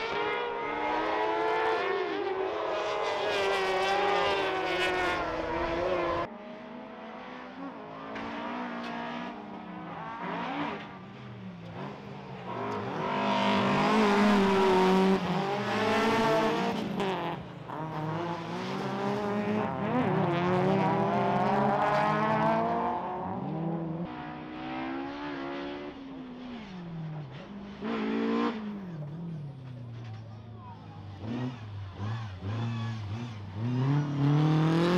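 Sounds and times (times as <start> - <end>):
race car engines revving past: 0.0 - 34.9.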